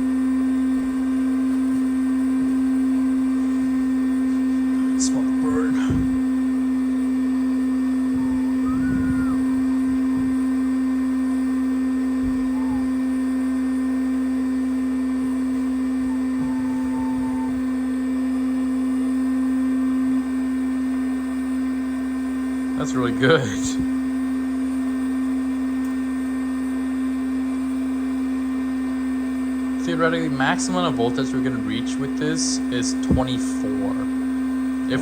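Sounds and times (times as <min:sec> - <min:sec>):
steady machine hum: 0:00.0 - 0:35.0.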